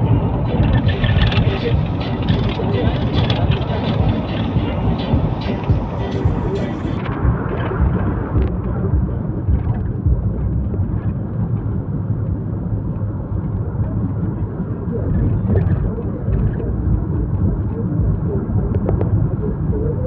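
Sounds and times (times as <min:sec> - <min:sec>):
vehicle driving interior rumble: 0:00.0 - 0:20.0.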